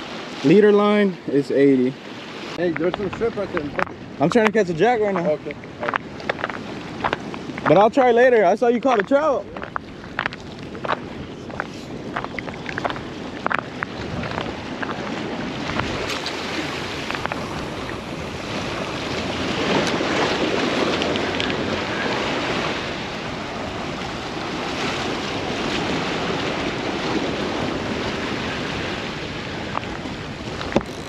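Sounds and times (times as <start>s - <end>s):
surf washing on rocks: 0.0s - 31.0s
wind on microphone: 2.0s - 8.0s, 8.8s - 31.0s.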